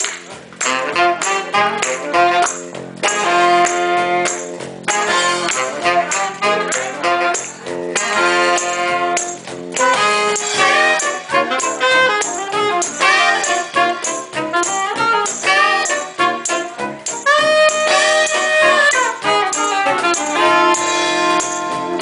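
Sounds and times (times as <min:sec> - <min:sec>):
cajon beat: 0:00.0 - 0:22.0
electric bass: 0:00.0 - 0:22.0
saxophones playing jazzy tune: 0:00.6 - 0:22.0.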